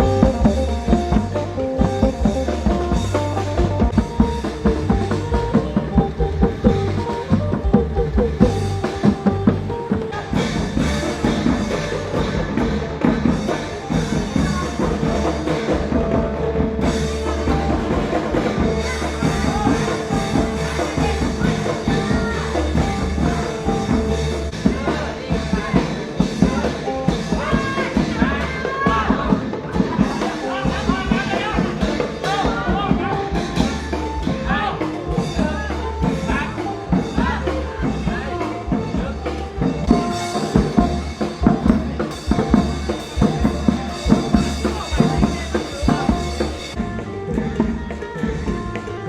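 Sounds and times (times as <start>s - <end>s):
drum kit beat: 0.0s - 49.0s
heavy bass line: 0.0s - 49.0s.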